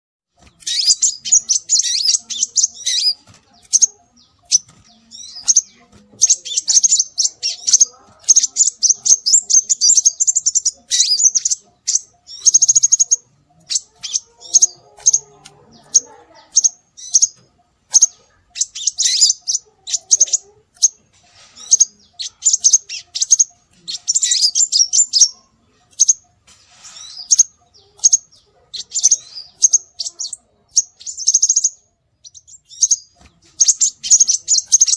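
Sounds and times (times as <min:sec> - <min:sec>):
bird chirping and trilling: 0:00.4 - 0:34.9.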